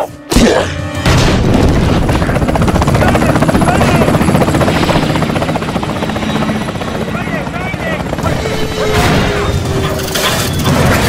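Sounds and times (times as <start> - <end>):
helicopter rotors chopping: 0.7 - 11.0.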